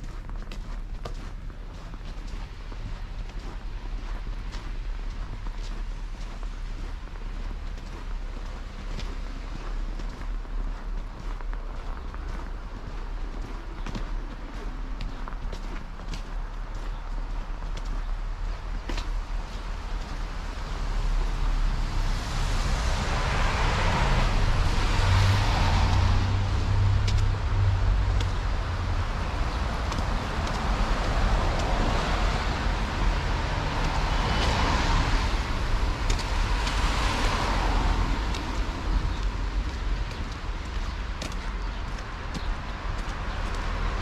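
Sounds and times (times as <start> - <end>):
cars passing by: 0.0 - 44.0
steady low traffic rumble: 0.0 - 44.0.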